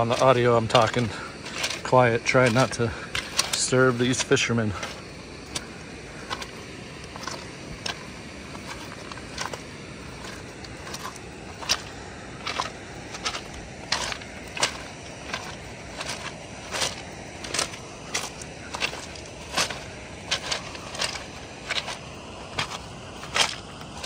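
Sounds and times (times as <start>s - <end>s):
footsteps crunching on stones: 0.0s - 24.0s.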